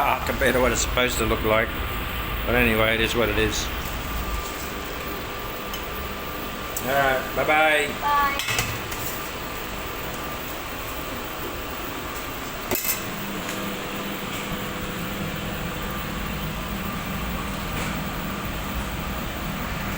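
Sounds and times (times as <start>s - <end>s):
steady mechanical hum: 0.0s - 19.9s.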